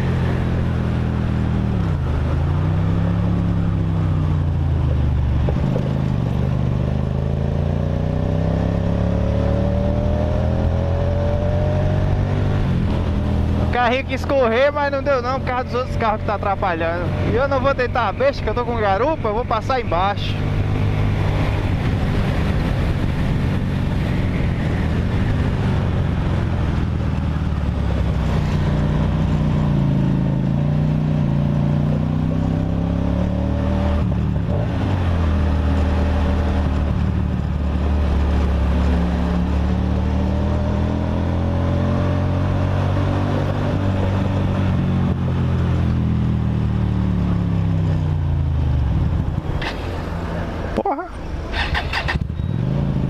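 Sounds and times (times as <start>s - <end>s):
motorcycle engine and exhaust: 0.0s - 53.0s
wind and road noise: 0.0s - 53.0s.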